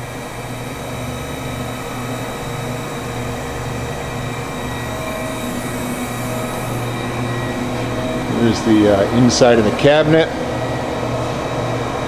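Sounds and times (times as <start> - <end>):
machine hum with low throb: 0.0 - 12.0.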